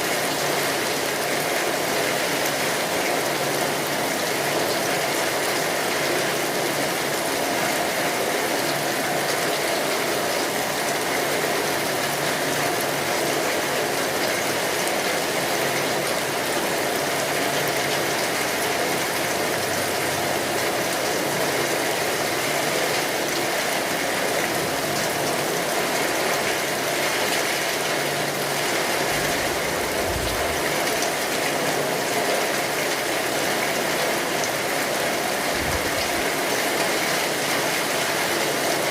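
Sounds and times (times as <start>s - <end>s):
rain drumming on a tin roof: 0.0s - 38.9s.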